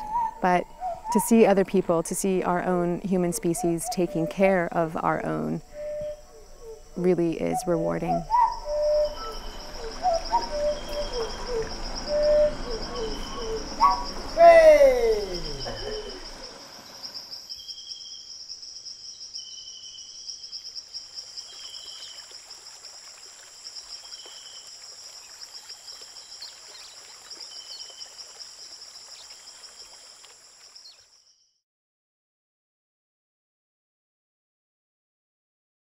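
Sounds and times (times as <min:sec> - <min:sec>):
insects trilling: 0:00.0 - 0:31.4.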